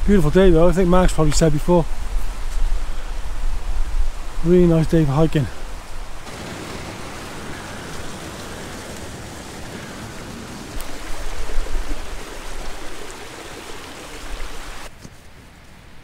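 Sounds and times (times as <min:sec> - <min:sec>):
stream rushing over rocks: 0:01.2 - 0:14.9.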